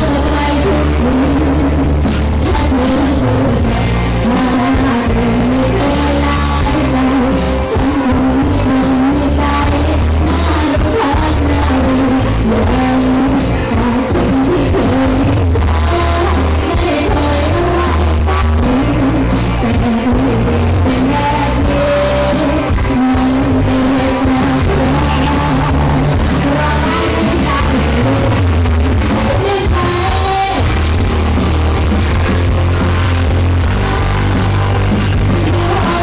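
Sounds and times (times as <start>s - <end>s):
woman singing: 0.0s - 30.8s, 35.3s - 36.0s
distorted pop song through loudspeakers: 0.0s - 36.0s.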